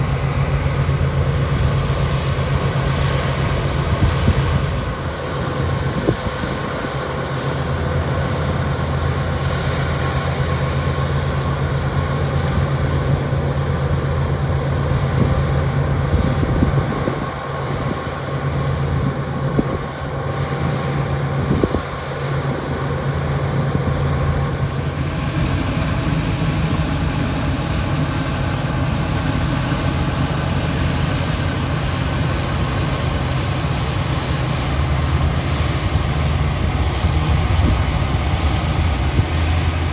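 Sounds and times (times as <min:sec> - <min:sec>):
farm machinery engine running: 0:00.0 - 0:39.9.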